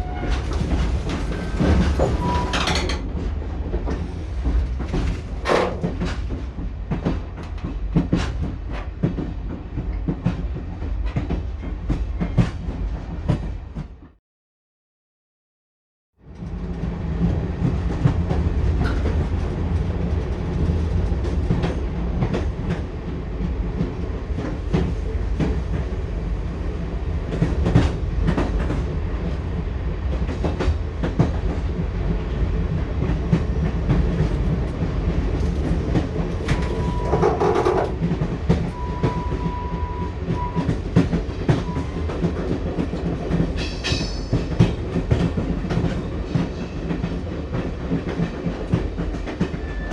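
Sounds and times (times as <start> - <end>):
train wheels clacking on rails: 0.0 - 14.1, 16.4 - 26.0, 27.3 - 29.4, 30.1 - 49.9.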